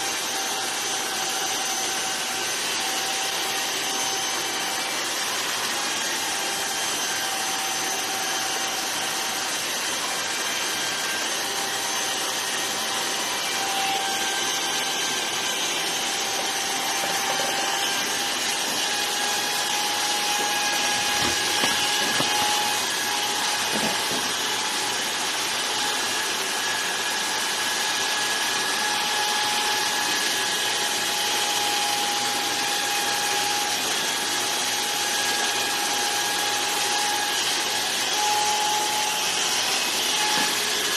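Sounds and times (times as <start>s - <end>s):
electric hair clipper buzzing: 0.0s - 40.9s.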